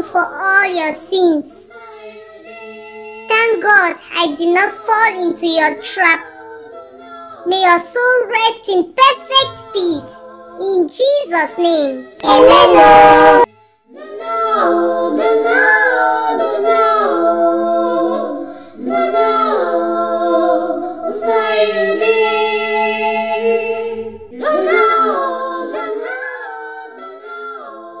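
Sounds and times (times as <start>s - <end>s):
voices singing unaccompanied: 0.0s - 28.0s.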